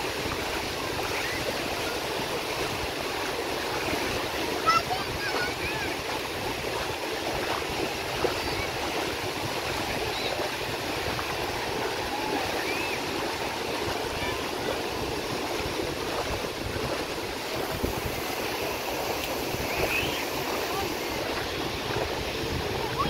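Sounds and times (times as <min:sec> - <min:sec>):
waves washing onto beach: 0:00.0 - 0:23.0.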